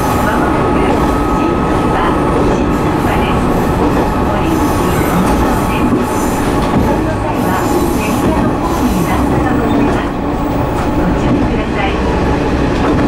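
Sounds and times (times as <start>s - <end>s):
diesel railcar running: 0.0s - 13.0s.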